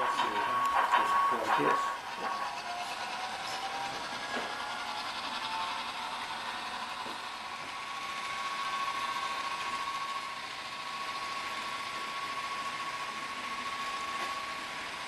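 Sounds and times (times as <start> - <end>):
model train motor whirring: 0.0 - 15.0.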